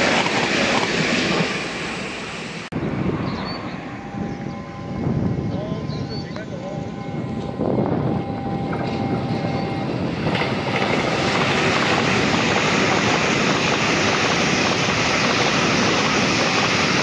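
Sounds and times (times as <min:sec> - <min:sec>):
train passing at high speed: 0:00.0 - 0:17.0.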